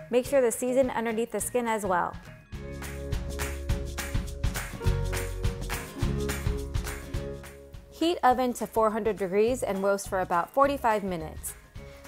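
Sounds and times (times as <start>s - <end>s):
background music with beat: 2.0s - 12.0s.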